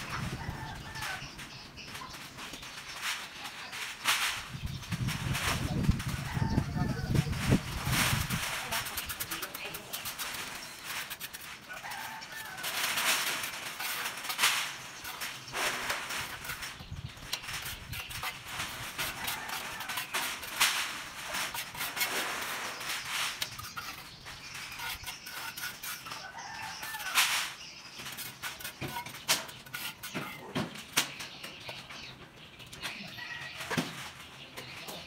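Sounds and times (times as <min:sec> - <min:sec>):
chickens clucking: 0:00.0 - 0:35.0
scraping sounds: 0:00.0 - 0:35.0.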